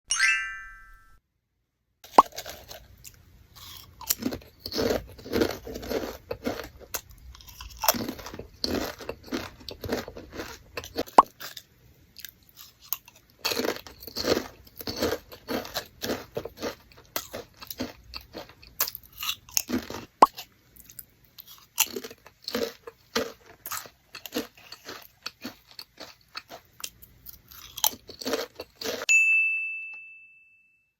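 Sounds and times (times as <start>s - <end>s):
crunching and chewing crisps: 2.0s - 29.1s.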